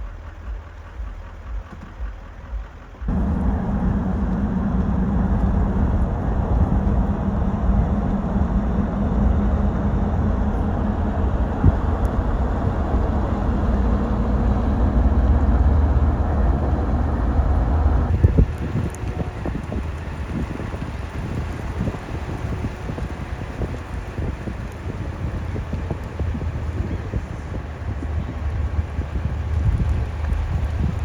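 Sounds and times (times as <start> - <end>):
vehicle engine and road rumble: 0.0 - 31.0.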